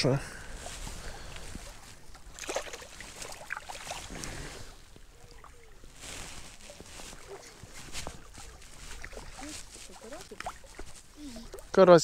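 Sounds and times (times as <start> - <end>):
water lapping at shore: 0.4 - 12.0
fish and rod clicks and rustles: 0.6 - 11.8.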